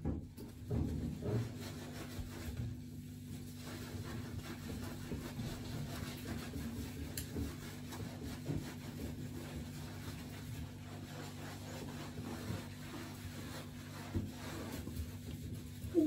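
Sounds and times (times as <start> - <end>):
sponge scrubbing wet fur: 0.0 - 16.0.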